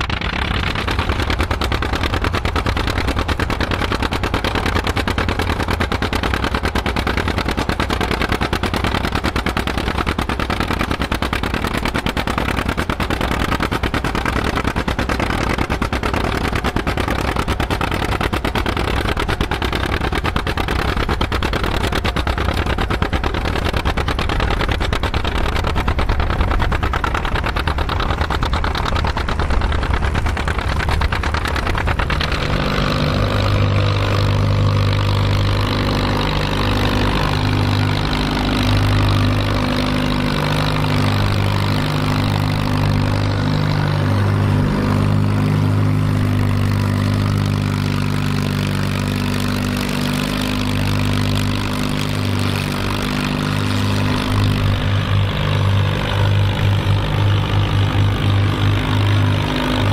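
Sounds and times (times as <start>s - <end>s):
tractor engines running: 0.0s - 59.9s.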